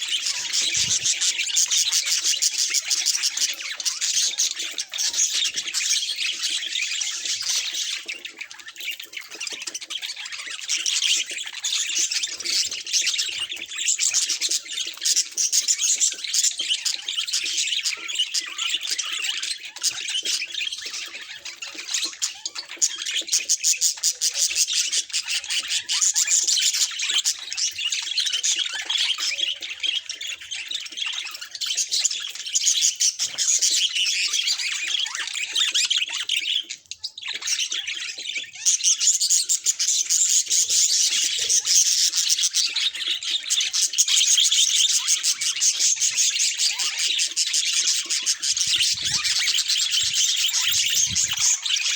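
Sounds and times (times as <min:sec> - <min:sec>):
budgerigar chatter: 0:00.0 - 0:51.9.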